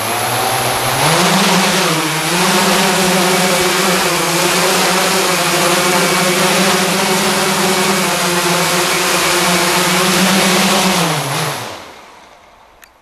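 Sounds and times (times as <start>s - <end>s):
drone motors whirring: 0.0s - 12.6s
propeller wash rushing: 0.0s - 12.8s.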